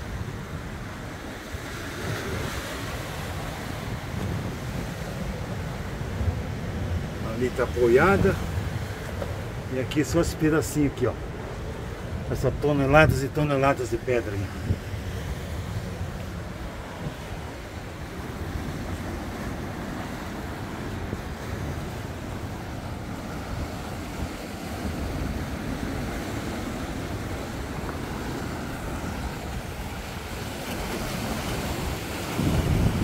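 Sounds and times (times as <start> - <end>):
surf washing against rocks: 0.0 - 33.0
wind buffeting microphone: 0.0 - 33.0.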